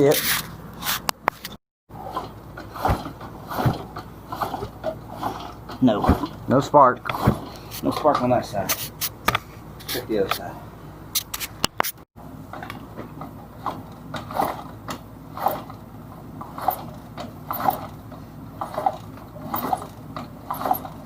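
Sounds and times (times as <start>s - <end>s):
motorcycle kick-starter ratcheting: 0.2s - 8.4s, 11.2s - 15.8s, 16.4s - 21.0s.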